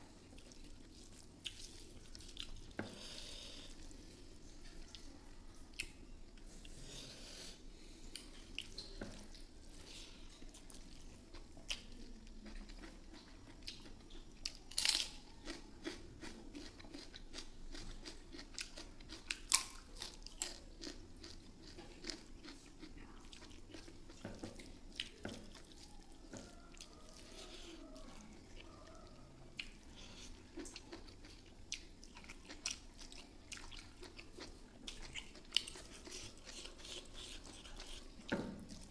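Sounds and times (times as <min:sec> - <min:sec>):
chewing: 0:00.0 - 0:06.9, 0:07.5 - 0:38.9.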